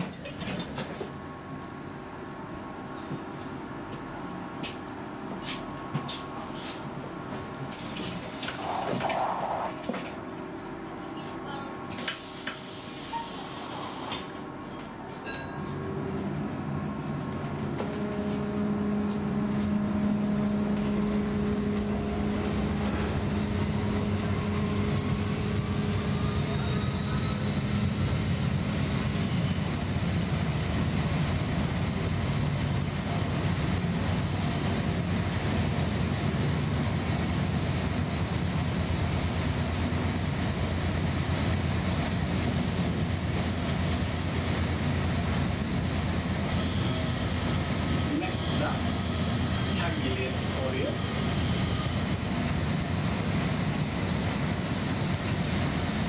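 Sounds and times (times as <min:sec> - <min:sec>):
tram wheels rumbling on rails: 0:00.0 - 0:02.0, 0:02.7 - 0:56.0
tram motor hum and whine: 0:00.0 - 0:56.0.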